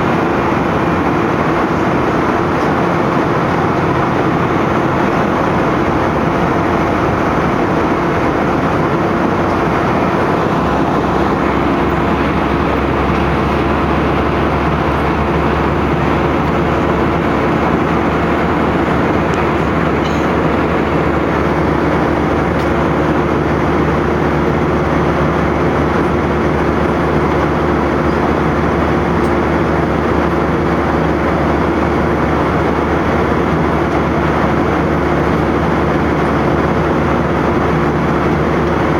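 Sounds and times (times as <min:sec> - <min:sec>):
constant low hum: 0:00.0 - 0:38.9
engine and airflow rush: 0:00.0 - 0:38.9.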